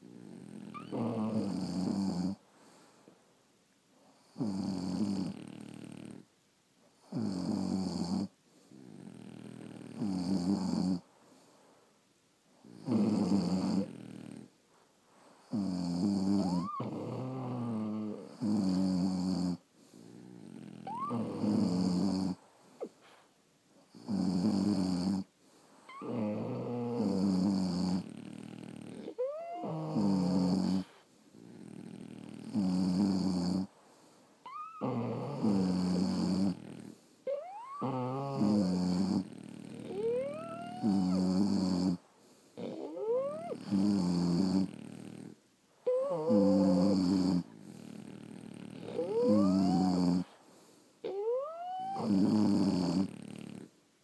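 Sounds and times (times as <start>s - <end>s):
dog snoring with squeaky whistle: 0.0s - 2.4s, 4.2s - 6.2s, 7.0s - 11.0s, 12.7s - 14.5s, 15.4s - 23.2s, 23.9s - 33.7s, 34.4s - 42.0s, 42.6s - 53.7s.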